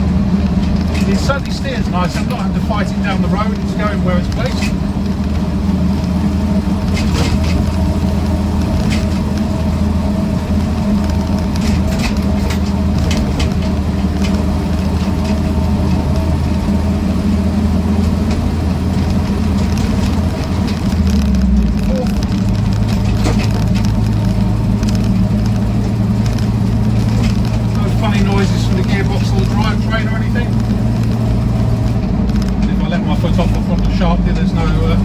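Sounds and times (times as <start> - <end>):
car engine running: 0.0 - 35.0
clicks and rattles: 0.0 - 35.0.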